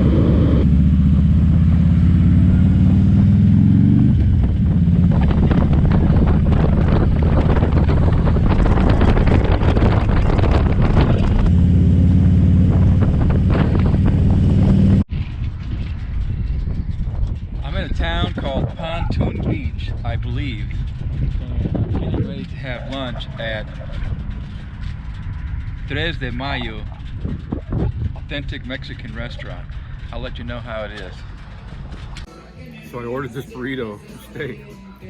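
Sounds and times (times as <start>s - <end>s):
wind buffeting microphone: 0.0s - 32.3s
motorcycle engine running: 0.0s - 33.2s.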